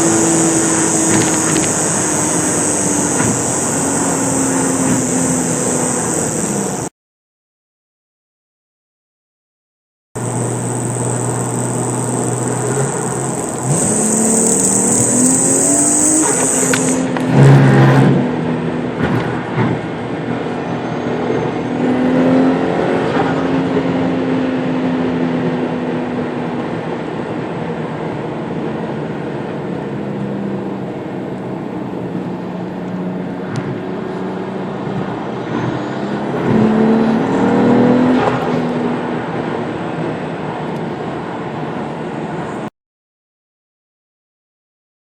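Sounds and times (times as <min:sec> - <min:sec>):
car engine running under load: 0:00.0 - 0:06.9, 0:10.2 - 0:42.7.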